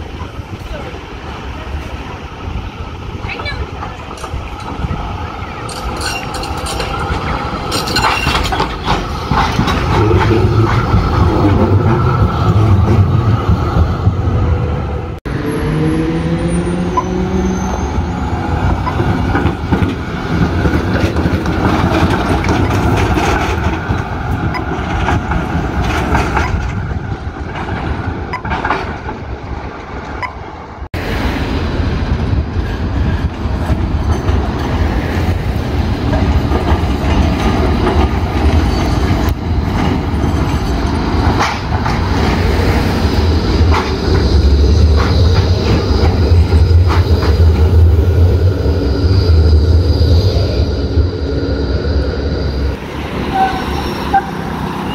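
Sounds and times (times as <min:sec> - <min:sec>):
tram wheels clattering over rails: 0:00.0 - 0:14.9, 0:16.7 - 0:54.9.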